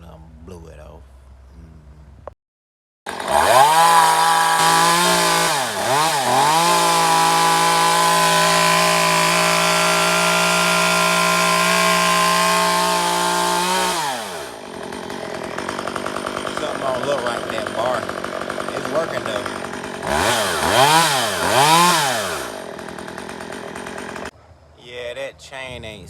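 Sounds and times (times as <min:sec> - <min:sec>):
chainsaw running at high revs: 0:03.1 - 0:24.3.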